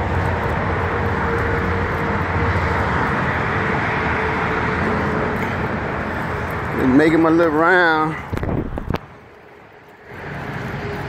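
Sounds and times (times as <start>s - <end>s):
faint engine hum: 0.0s - 11.0s
vehicles and tyres rushing: 0.0s - 11.0s.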